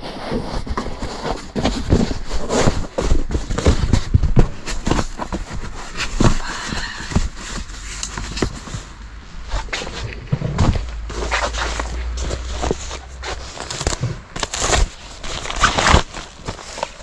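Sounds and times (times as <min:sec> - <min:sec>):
foam mat rustling and scraping: 0:00.0 - 0:17.0.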